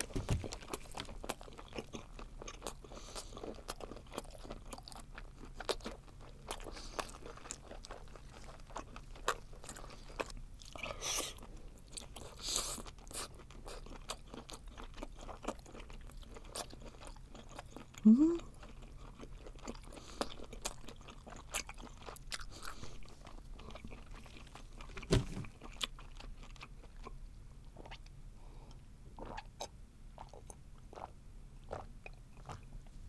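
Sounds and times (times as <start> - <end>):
chewing with crunches: 0.0 - 33.0.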